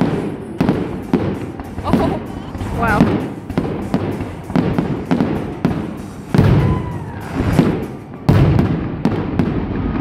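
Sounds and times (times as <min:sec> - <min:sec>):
fireworks bangs and booms: 0:00.0 - 0:10.0
music: 0:00.0 - 0:10.0.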